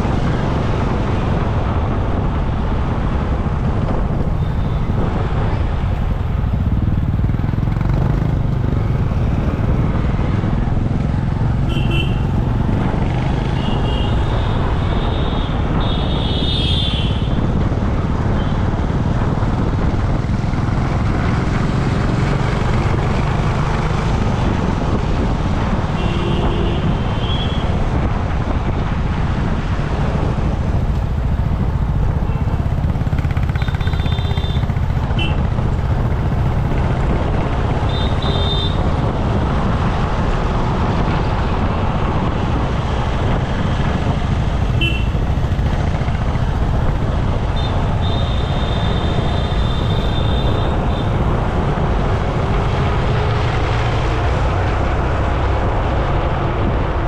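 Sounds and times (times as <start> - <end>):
road and traffic noise: 0.0 - 57.0.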